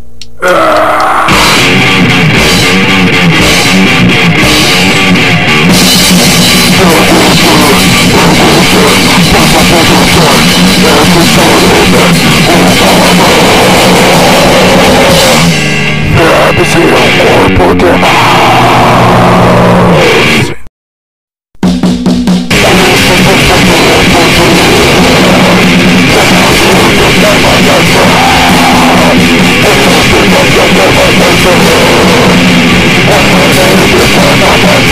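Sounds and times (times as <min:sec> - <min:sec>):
distorted electric guitar: 0:00.0 - 0:20.7, 0:21.6 - 0:34.9
pounding drum kit: 0:00.6 - 0:20.4, 0:21.6 - 0:34.9.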